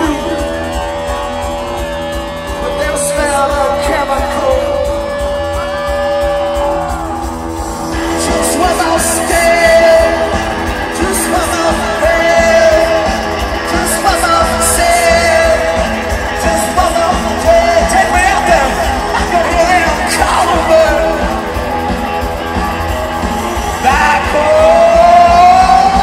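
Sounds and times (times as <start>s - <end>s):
punk rock band playing live: 0.0s - 26.0s.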